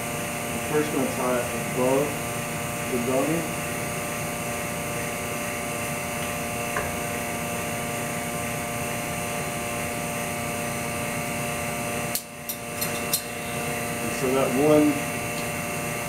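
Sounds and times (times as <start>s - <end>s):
machine whirring hum: 0.0s - 16.0s.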